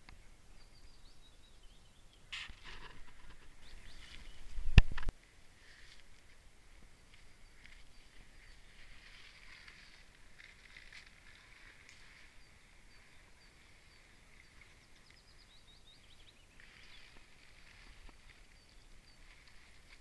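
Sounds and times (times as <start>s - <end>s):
small bird chirping: 0.0s - 5.1s, 6.9s - 20.0s.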